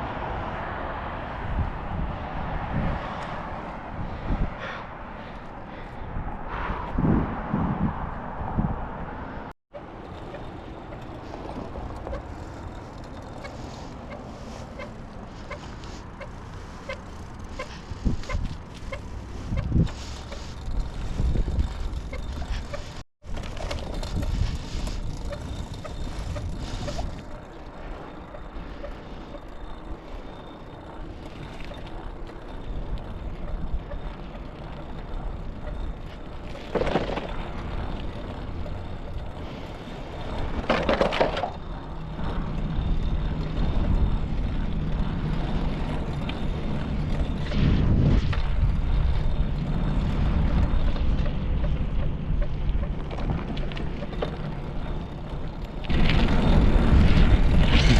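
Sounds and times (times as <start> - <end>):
steady low engine hum: 8.5 - 40.7, 41.5 - 57.9
low uneven engine rumble: 9.7 - 57.9.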